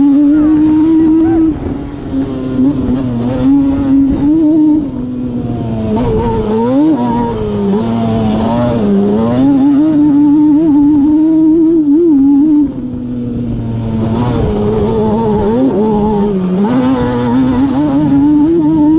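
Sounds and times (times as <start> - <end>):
two-stroke engine running hard: 0.0 - 18.9.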